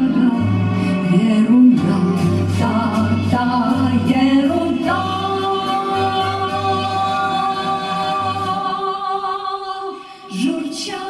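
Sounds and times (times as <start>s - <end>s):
women singing a long note: 0.0s - 11.0s.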